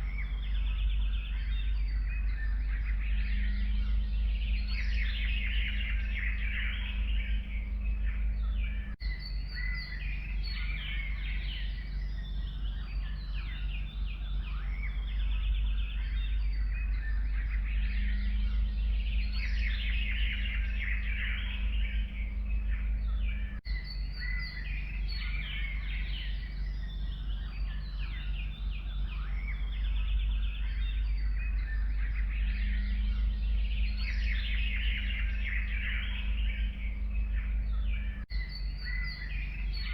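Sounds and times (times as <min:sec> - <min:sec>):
birds singing: 0:00.0 - 0:39.9
steady low rumble: 0:00.0 - 0:39.9.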